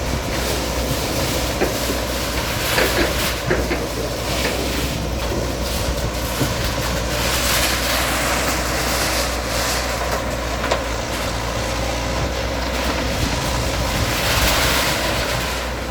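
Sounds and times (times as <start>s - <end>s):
bulldozer diesel engine running: 0.0s - 15.9s.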